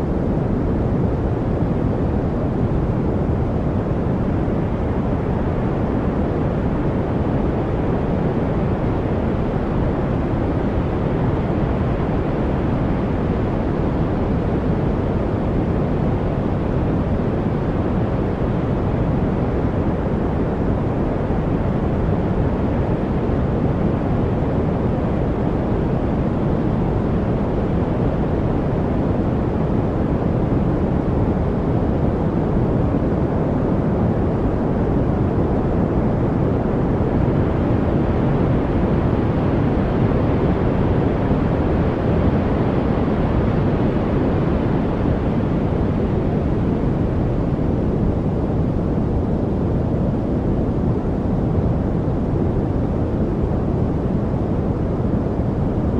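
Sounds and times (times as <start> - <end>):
deep steady rushing noise: 0.0 - 55.9.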